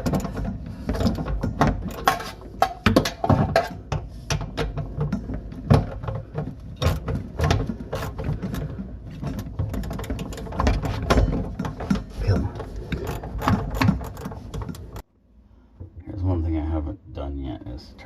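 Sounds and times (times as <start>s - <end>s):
hand tools clicking and clunking: 0.0s - 15.0s.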